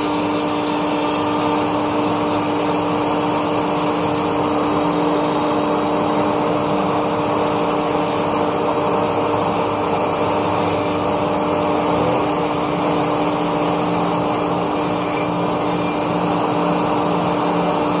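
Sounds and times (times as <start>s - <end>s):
router spindle cutting foam: 0.0s - 18.0s.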